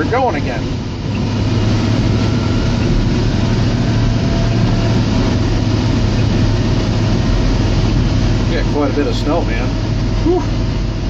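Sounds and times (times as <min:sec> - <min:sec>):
diesel engine running with deep hum: 0:00.0 - 0:11.0.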